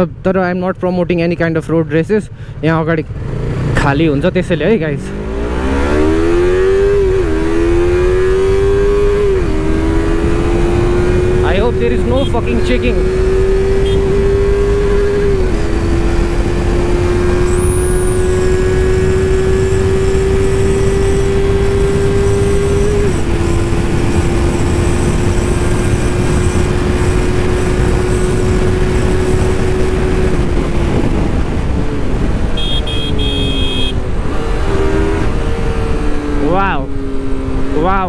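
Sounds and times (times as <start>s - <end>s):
heavy wind noise: 2.3s - 38.0s
motorcycle engine at high revs: 3.1s - 38.0s.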